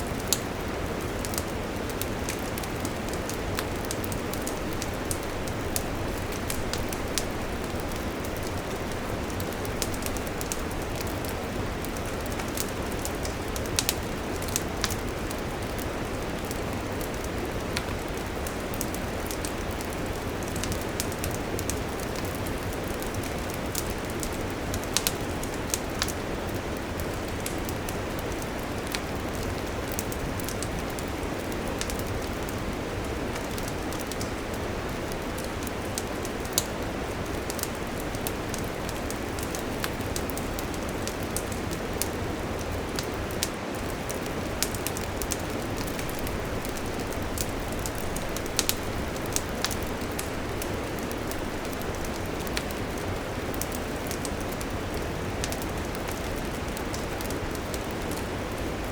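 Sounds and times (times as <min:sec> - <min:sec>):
wood campfire crackling: 0:00.0 - 0:58.9.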